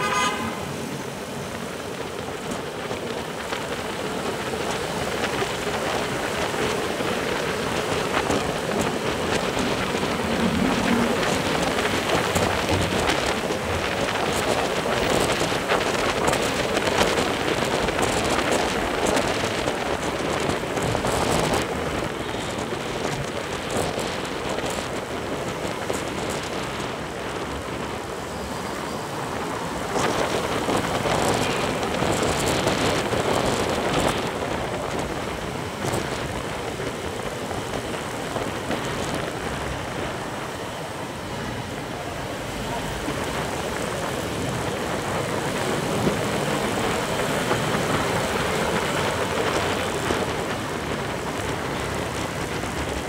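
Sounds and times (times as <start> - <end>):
motorcycle road noise: 0.0 - 53.0
wind on microphone: 0.0 - 53.0.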